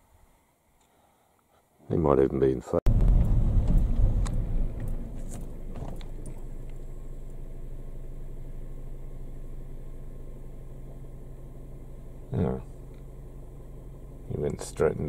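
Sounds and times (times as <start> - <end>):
car engine humming: 2.9 - 15.0.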